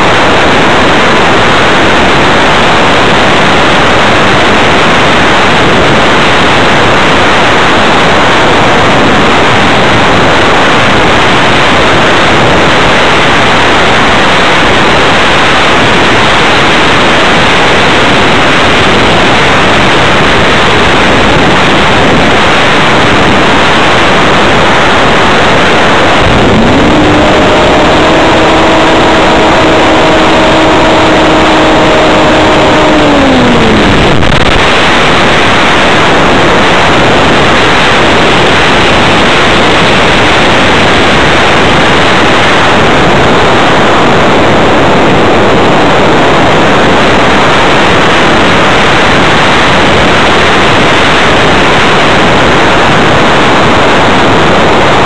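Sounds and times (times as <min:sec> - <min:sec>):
electric motor and propeller whine: 0:00.0 - 0:47.8
wind rush over camera: 0:00.0 - 0:55.0.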